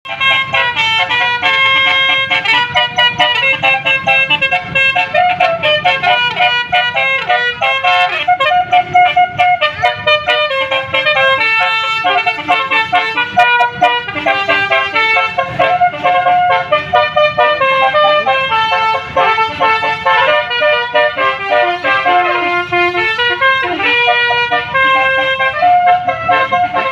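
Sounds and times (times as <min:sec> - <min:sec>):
musical air horn melody: 0:00.0 - 0:26.9.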